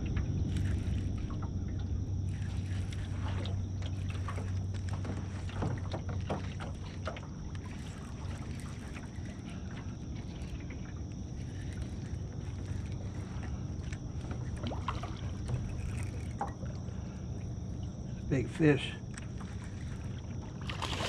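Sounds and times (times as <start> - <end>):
boat motor humming: 0.0 - 21.0
water slapping hull: 0.0 - 21.0.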